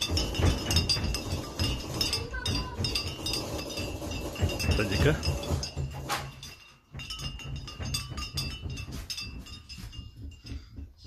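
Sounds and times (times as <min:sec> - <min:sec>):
faint steady ringing: 0:00.0 - 0:11.0
objects rattling and clinking: 0:00.0 - 0:11.0.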